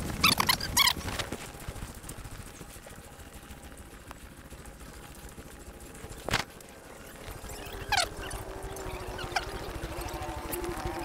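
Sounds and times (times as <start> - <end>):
quiet outdoor background noise: 0.0 - 11.0.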